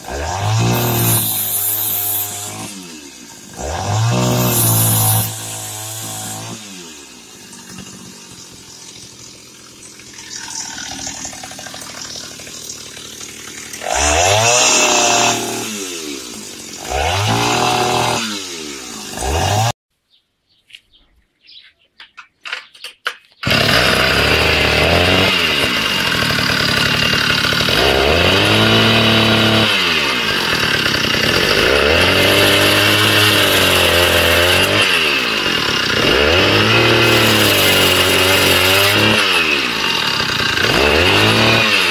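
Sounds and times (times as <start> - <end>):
two-stroke engine revving: 0.0 - 19.8, 23.4 - 41.9.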